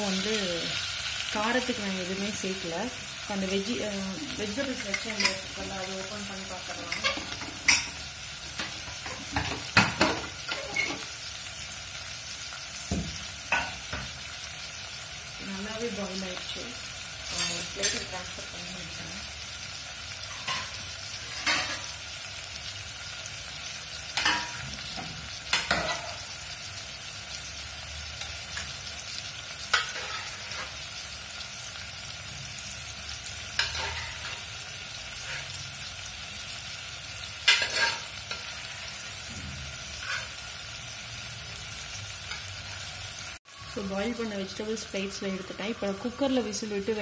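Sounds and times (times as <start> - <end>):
onions sizzling in oil: 0.0 - 47.0.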